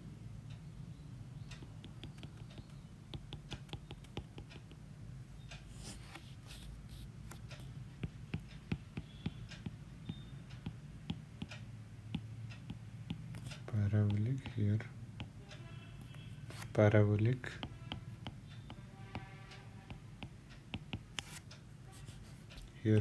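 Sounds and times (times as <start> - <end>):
pen clicking and tapping on paper: 1.6 - 4.8, 5.7 - 15.4, 16.0 - 23.0.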